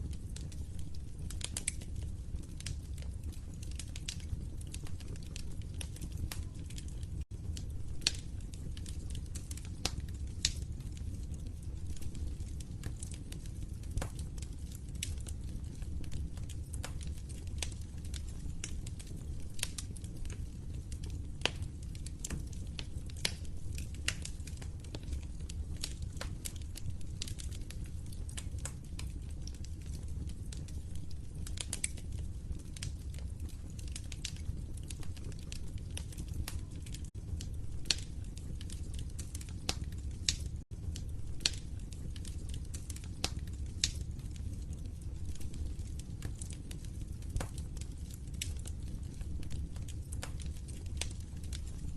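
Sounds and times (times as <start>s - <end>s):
fire crackles and pops: 0.0s - 51.9s
fire flames rumbling: 0.0s - 51.9s.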